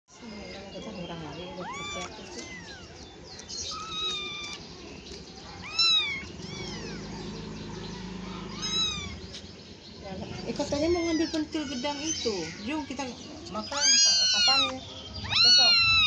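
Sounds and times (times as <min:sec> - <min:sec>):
kittens meowing: 0:01.4 - 0:09.5, 0:10.4 - 0:16.0.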